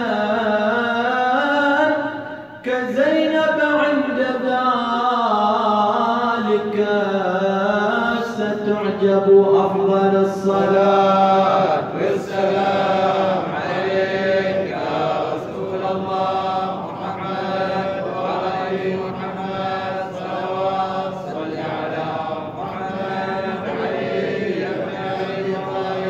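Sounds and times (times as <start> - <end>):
wordless vocal chanting: 0.0 - 26.0.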